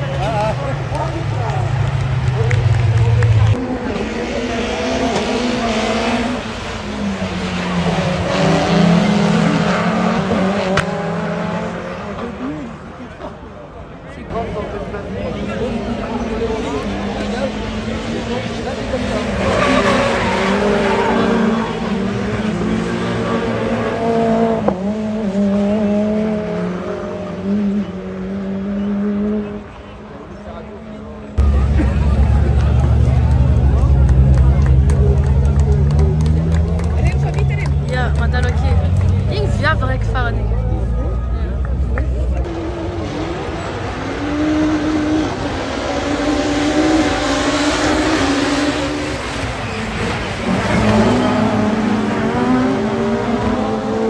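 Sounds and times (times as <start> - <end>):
race car engines running hard: 0.0 - 54.0.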